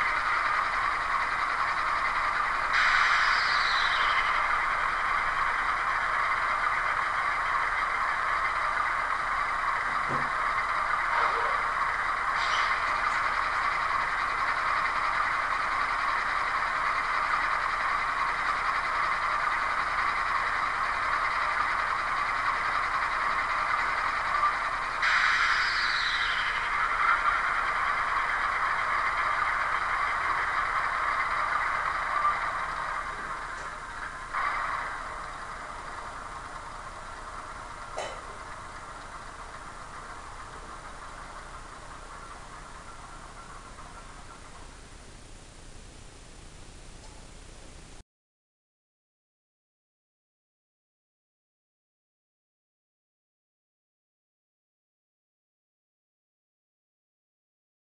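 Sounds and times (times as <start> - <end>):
diesel engine sound from small speaker: 0.0 - 48.0.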